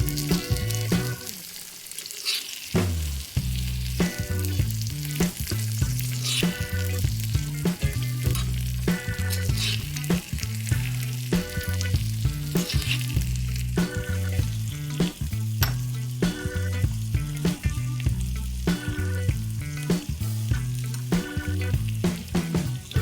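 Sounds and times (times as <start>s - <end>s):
background music with bass line: 0.0s - 1.3s, 2.8s - 23.0s
food sizzling in oil: 0.0s - 23.0s.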